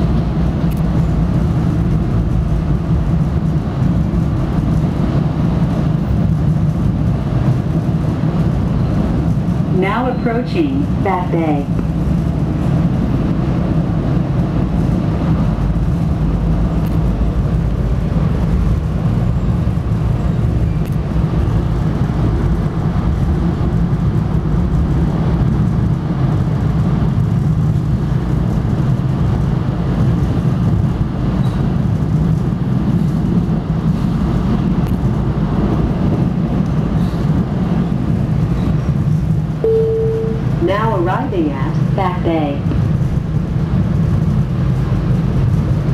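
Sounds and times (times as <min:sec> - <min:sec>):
train running from inside coach: 0:00.0 - 0:45.9.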